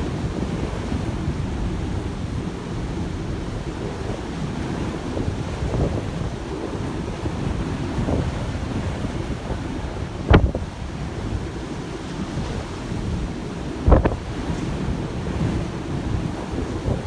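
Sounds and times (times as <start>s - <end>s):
heavy seas rushing: 0.0s - 17.0s
wind buffeting microphone: 0.0s - 17.0s.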